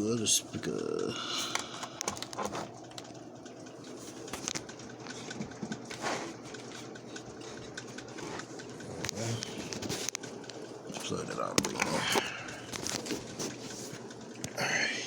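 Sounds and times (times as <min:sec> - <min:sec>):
cable handling noise: 0:01.4 - 0:14.6.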